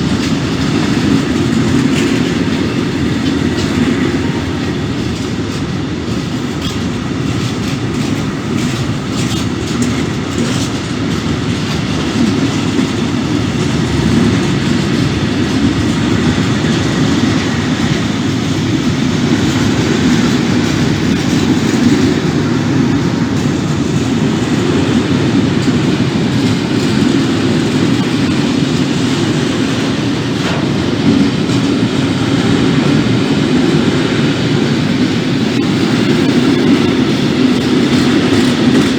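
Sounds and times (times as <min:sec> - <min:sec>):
freight train rumbling past: 0:00.0 - 0:38.9
wheel clicks over rail joints: 0:00.0 - 0:38.9.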